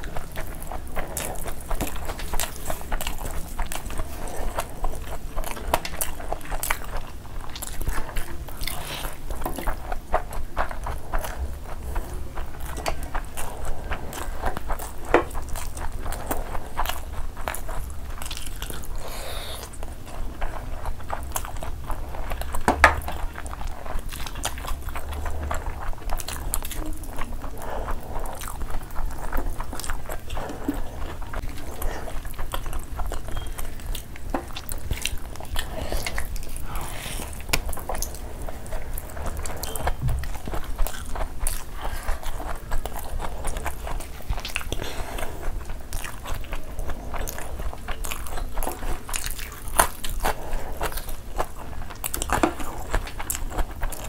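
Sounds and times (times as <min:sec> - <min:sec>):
close chewing and biting: 0:00.0 - 0:54.0.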